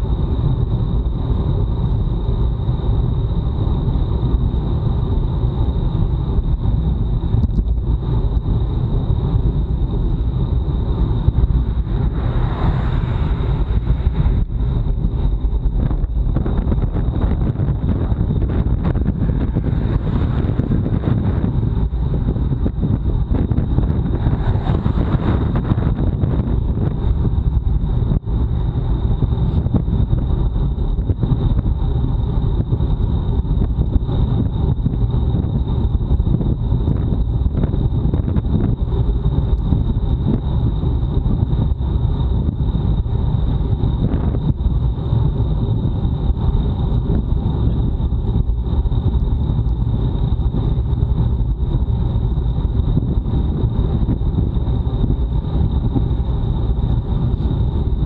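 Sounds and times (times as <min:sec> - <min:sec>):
thin high whine: 0:00.0 - 0:58.0
wind buffeting microphone: 0:00.0 - 0:58.0.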